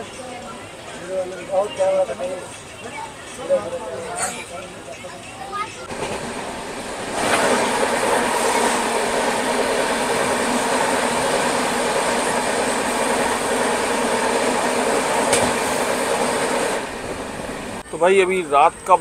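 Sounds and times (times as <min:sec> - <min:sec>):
passing train rattling on rails: 0:00.0 - 0:18.6.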